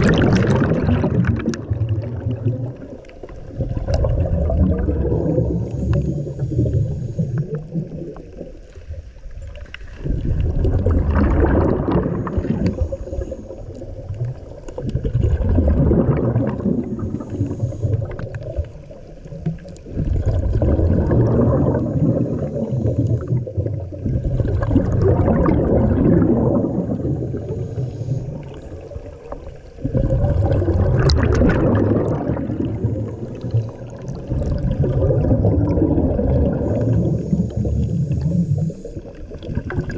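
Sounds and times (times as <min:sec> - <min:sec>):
diver exhaling bubbles: 0:00.0 - 0:08.8, 0:09.9 - 0:39.9.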